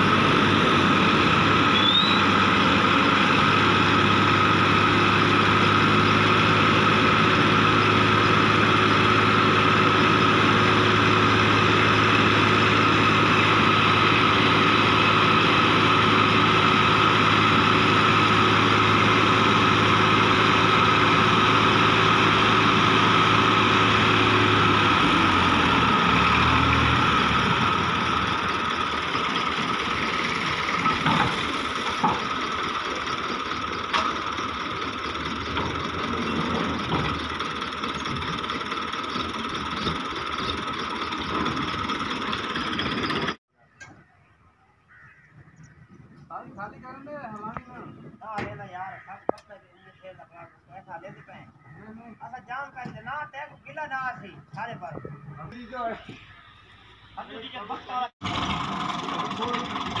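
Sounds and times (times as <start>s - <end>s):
tractor diesel engine running: 0.0s - 43.4s, 55.2s - 60.0s.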